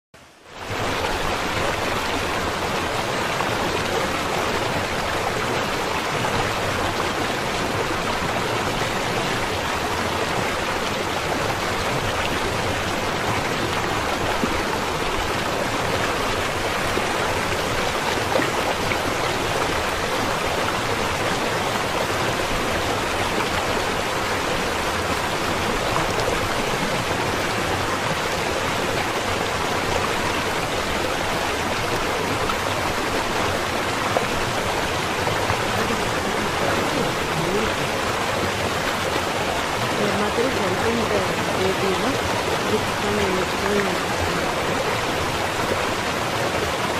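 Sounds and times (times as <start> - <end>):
river rushing over stones: 0.2 - 46.9.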